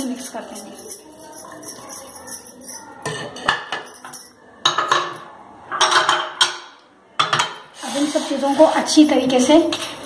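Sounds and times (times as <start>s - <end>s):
crockery clinking: 0.0s - 7.7s, 9.1s - 10.0s.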